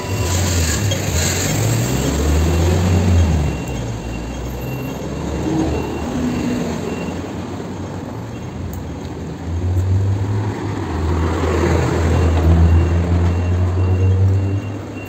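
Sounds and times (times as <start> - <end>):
steady street noise: 0.0 - 15.0
vehicle engine rumble: 0.0 - 15.0.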